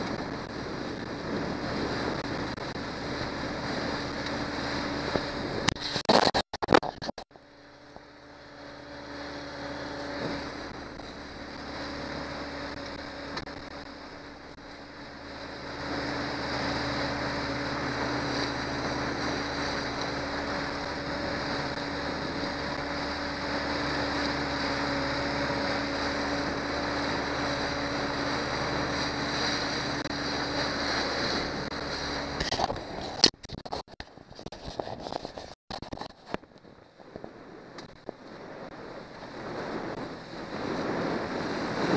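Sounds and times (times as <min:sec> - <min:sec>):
outboard motor droning: 0:00.0 - 0:41.9
water rushing past hull: 0:00.0 - 0:41.9
wind on microphone: 0:00.0 - 0:41.9.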